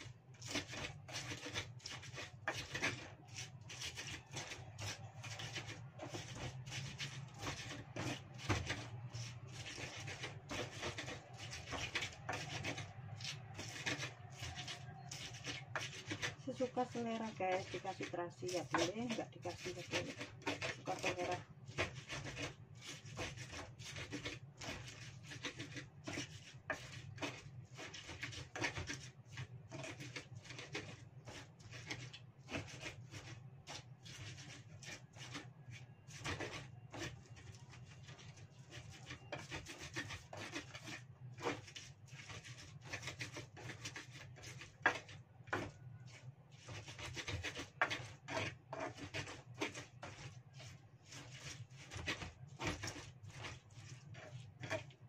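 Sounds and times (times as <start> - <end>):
pestle grinding in a mortar: 0.0 - 55.0.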